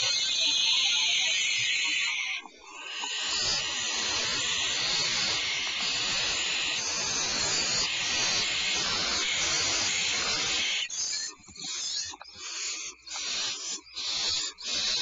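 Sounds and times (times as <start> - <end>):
owl hissing: 0.0 - 15.0.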